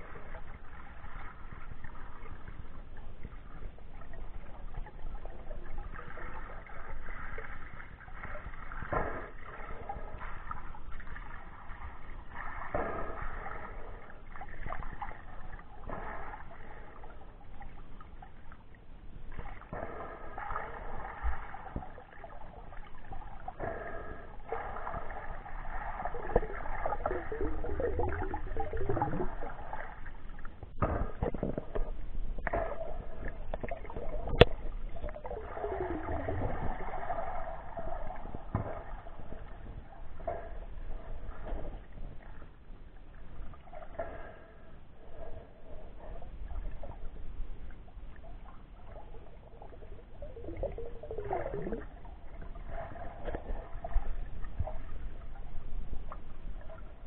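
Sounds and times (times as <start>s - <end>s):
muffled underwater sloshing: 0.0s - 57.0s.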